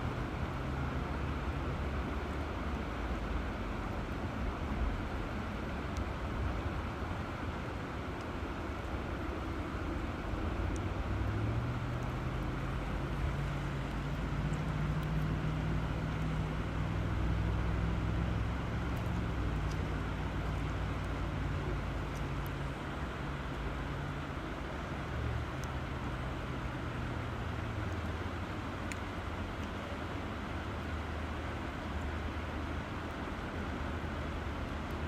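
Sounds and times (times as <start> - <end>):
low steady hum: 0.0 - 35.0
river water rushing: 0.0 - 35.0.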